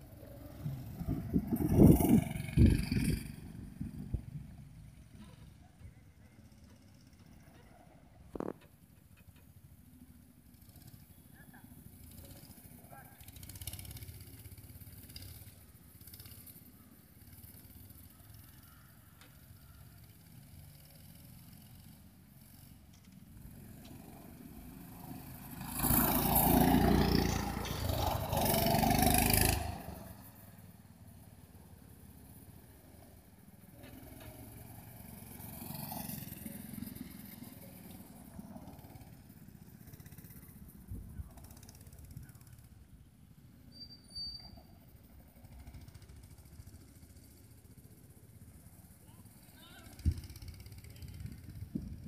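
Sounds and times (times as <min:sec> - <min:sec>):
go-kart engine passing: 0:00.0 - 0:52.0.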